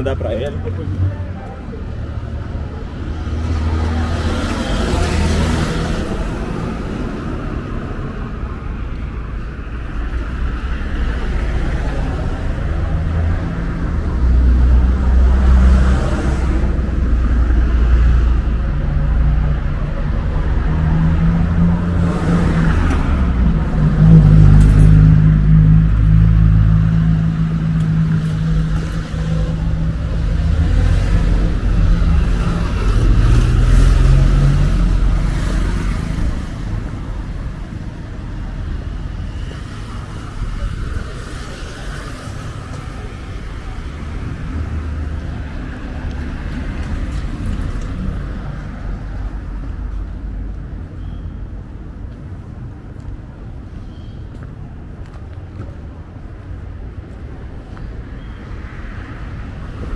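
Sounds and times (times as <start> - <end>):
vehicle engines passing: 0.0 - 59.9.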